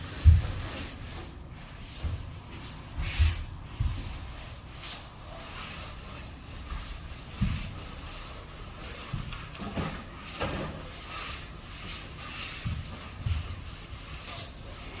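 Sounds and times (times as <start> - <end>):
hand scrubbing floor: 0.0 - 15.0.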